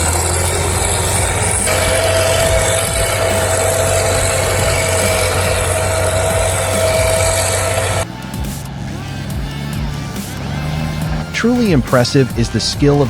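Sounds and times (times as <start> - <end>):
heavy machine engine rumbling: 0.0 - 13.0
steady whine: 0.0 - 13.0.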